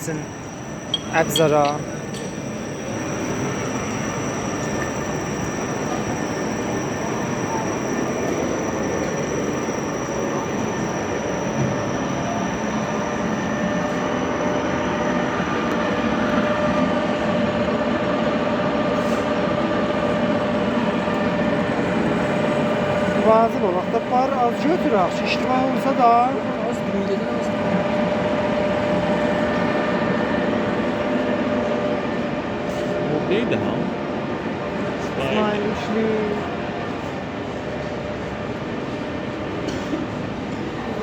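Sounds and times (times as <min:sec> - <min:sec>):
faint steady whines: 0:00.0 - 0:41.0.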